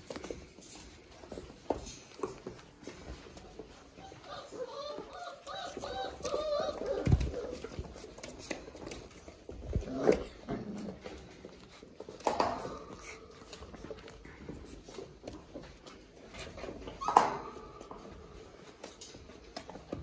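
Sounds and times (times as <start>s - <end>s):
puppies whining and yipping: 2.9s - 20.0s.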